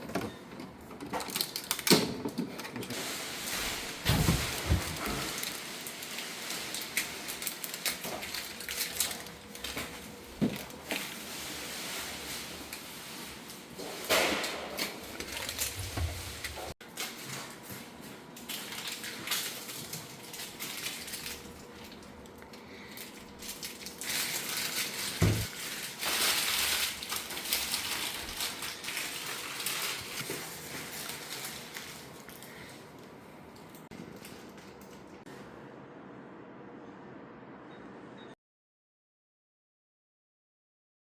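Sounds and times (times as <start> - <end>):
things being handled: 0.0 - 35.2.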